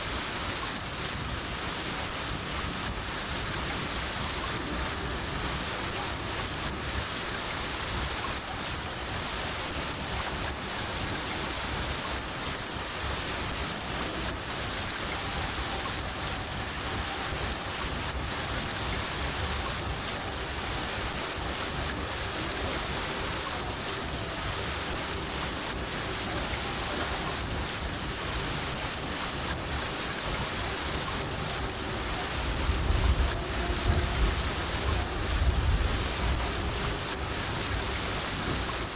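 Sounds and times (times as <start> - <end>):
cricket chirping: 0.0 - 38.9
rain hiss: 0.0 - 38.9.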